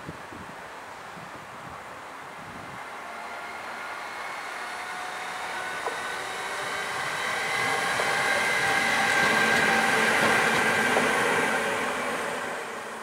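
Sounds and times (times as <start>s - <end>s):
wheels rushing on rail: 0.0s - 13.0s
locomotive whining tones: 2.1s - 13.0s.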